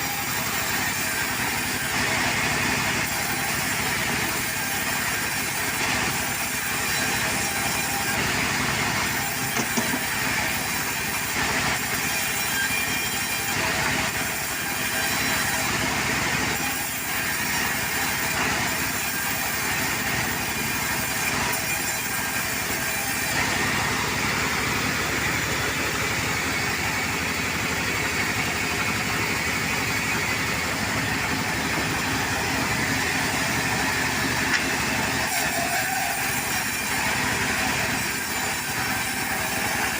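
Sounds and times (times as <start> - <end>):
portable sawmill engine running: 0.0 - 39.9.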